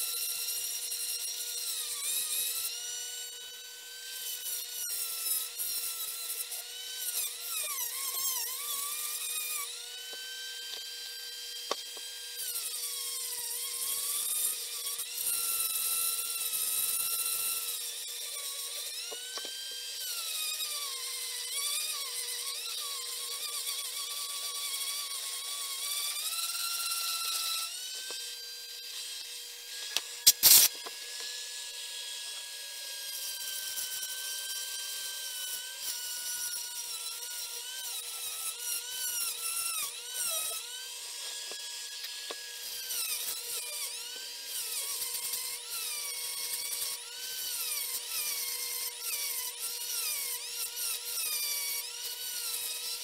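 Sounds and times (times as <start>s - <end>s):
rotary tool grinding metal: 0.0s - 53.0s.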